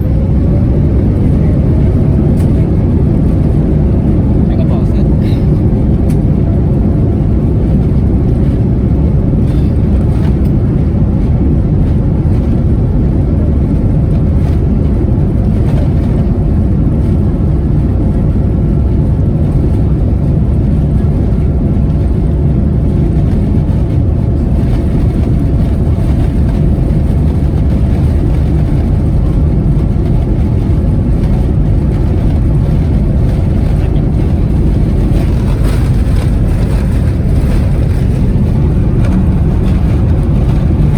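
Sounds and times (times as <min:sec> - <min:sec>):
airplane cabin engine roar: 0:00.0 - 0:40.9.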